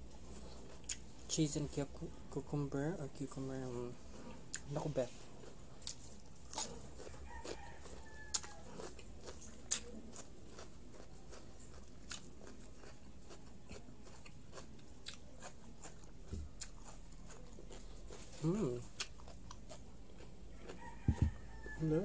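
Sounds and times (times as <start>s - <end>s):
cucumber crunching: 0.4s - 1.1s, 4.5s - 21.5s.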